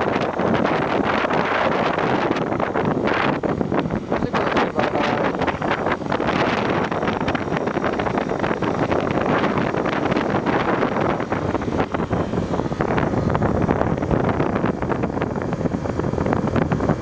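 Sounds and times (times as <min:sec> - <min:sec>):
motorcycle engine cruising: 0:00.0 - 0:17.0
wind buffeting microphone: 0:00.0 - 0:17.0.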